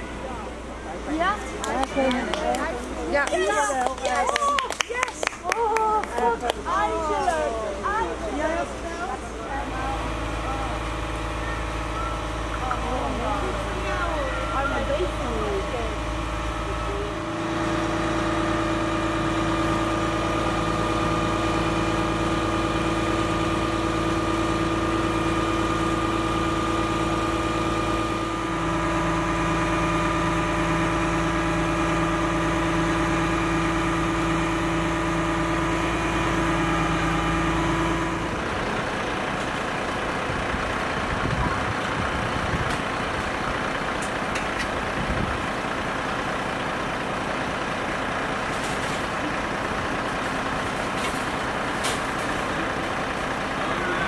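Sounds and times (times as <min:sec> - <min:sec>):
rough noisy rumble: 0:00.0 - 0:54.0
truck engine hum with held tone: 0:00.0 - 0:54.0.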